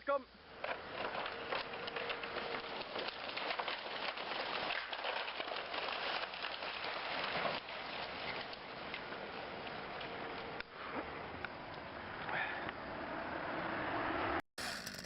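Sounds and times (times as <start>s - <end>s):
dense patter of ticks and crackles: 0.0s - 12.4s.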